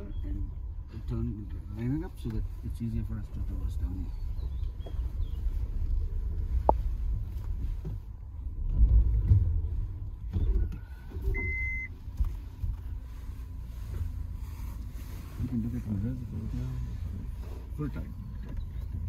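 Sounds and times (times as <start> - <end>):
engine and drivetrain rumble: 0.0 - 19.0.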